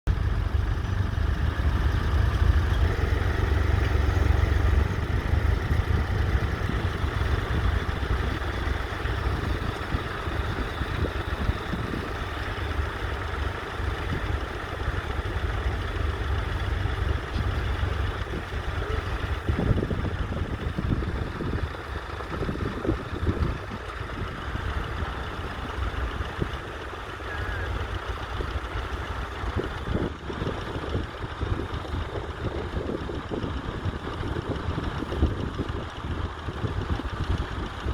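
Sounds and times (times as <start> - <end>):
tractor engine running: 0.1 - 37.9.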